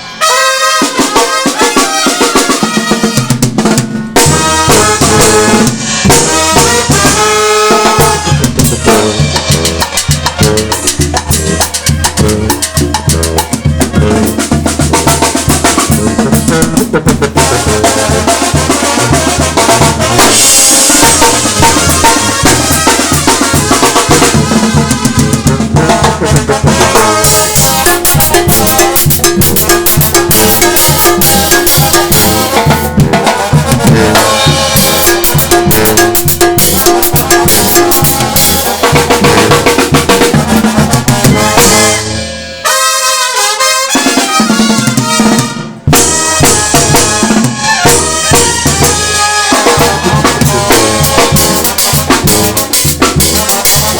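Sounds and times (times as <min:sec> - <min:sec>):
brass band playing: 0:00.0 - 0:53.9
high horns playing: 0:00.0 - 0:53.9.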